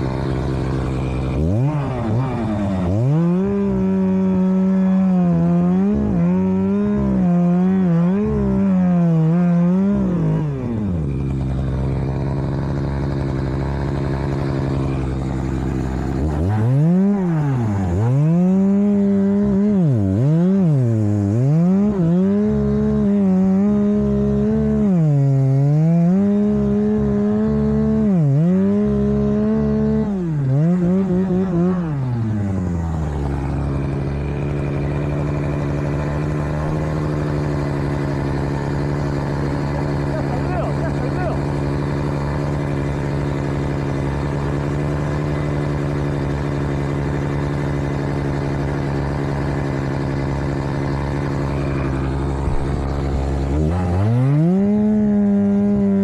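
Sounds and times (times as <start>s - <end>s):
chainsaw bogging under load: 0.0s - 56.0s.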